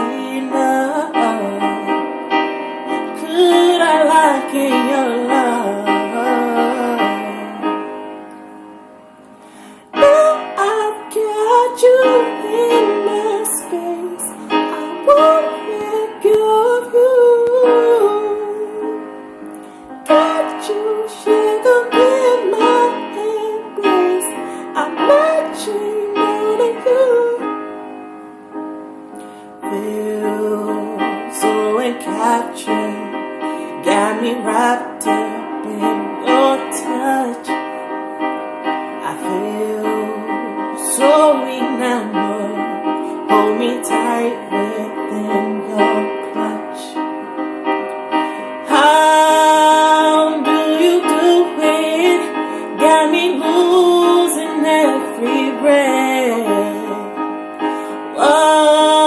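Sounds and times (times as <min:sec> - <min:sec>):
person singing: 0:00.0 - 0:08.2, 0:09.7 - 0:27.8, 0:29.2 - 0:47.3, 0:47.9 - 0:59.0
sustained keyboard chords: 0:00.0 - 0:59.0.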